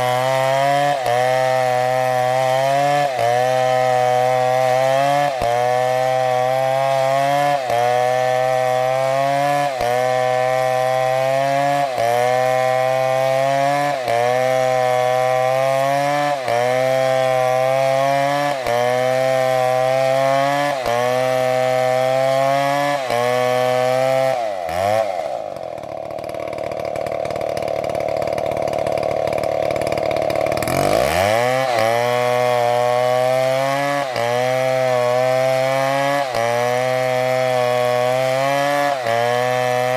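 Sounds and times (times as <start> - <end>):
chainsaw cutting: 0.0 - 39.9
chainsaw engine revving: 0.0 - 39.9.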